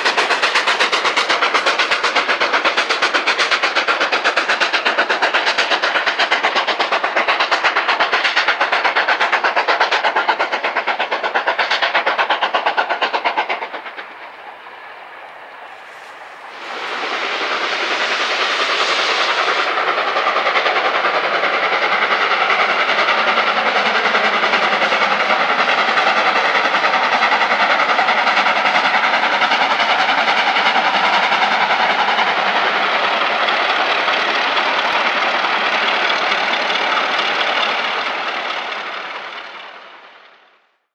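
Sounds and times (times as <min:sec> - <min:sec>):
steam locomotive exhaust beats: 0:00.0 - 0:40.6.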